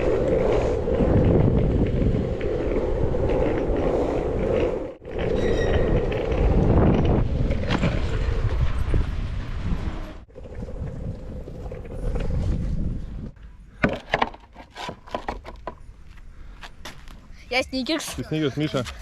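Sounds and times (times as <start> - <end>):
skateboard wheels rolling on pavement: 0.0 - 18.0.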